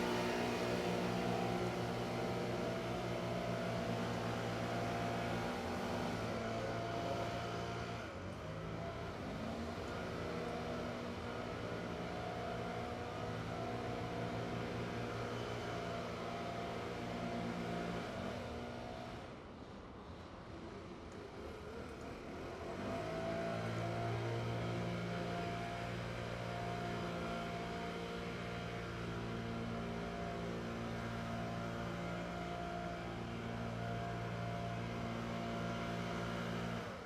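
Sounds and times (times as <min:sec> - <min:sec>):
leaf blowers running: 0:00.0 - 0:19.2, 0:21.1 - 0:37.0.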